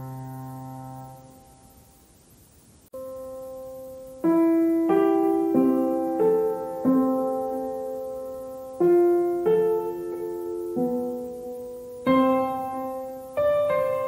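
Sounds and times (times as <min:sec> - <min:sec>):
gentle piano music: 0:00.0 - 0:01.8, 0:02.9 - 0:14.0.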